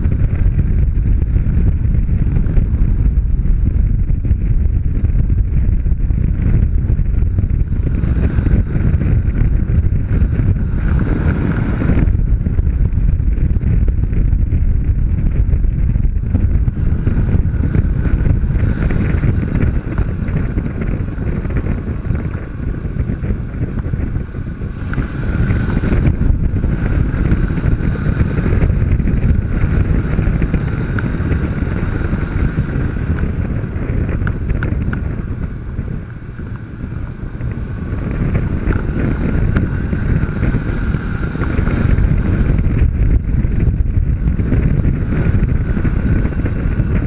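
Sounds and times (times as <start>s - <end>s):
motorcycle engine at speed: 0.0s - 47.0s
wind buffeting microphone: 0.0s - 47.0s.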